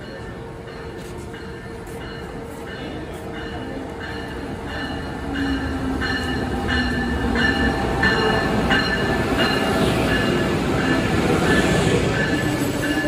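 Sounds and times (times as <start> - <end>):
train bell ringing: 0.0 - 13.0
train rumbling: 0.0 - 13.0.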